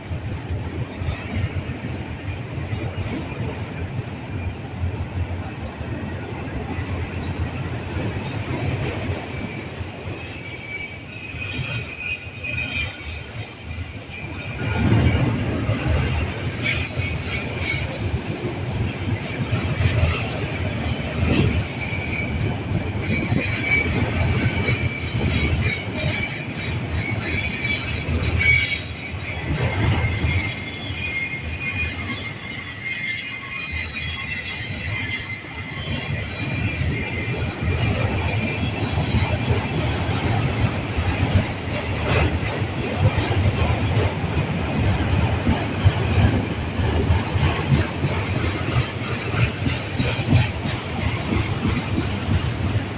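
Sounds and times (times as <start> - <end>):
low rumble of train cars: 0.0 - 52.9
train wheels squealing: 0.0 - 52.9.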